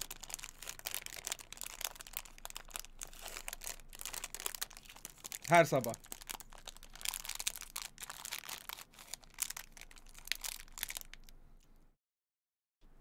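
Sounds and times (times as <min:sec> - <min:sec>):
dense crackling and crinkling: 0:00.0 - 0:11.9.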